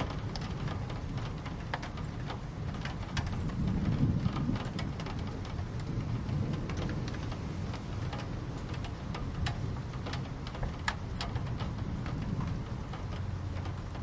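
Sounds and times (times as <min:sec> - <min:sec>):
rain drops ticking on hard surface: 0:00.0 - 0:14.0.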